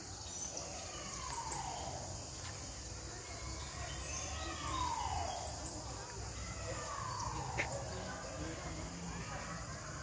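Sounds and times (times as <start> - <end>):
faint high chirps: 0.0 - 9.6.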